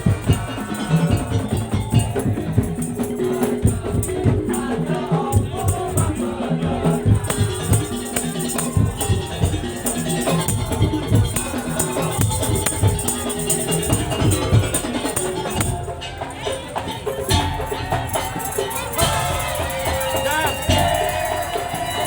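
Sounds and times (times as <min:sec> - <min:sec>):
low drum beats: 0:00.0 - 0:22.0
pitched percussion melody: 0:00.0 - 0:22.0
rattling percussion: 0:00.0 - 0:22.0.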